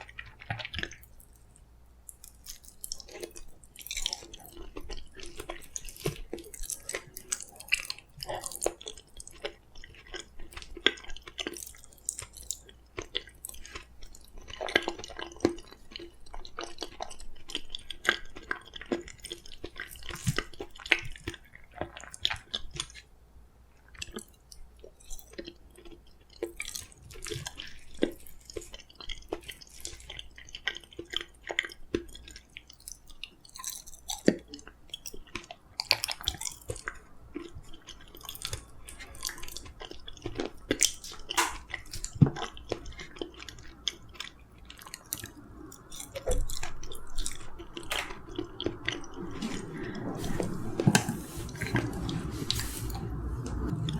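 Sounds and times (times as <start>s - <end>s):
chewing with wet mouth sounds: 0.0s - 53.9s.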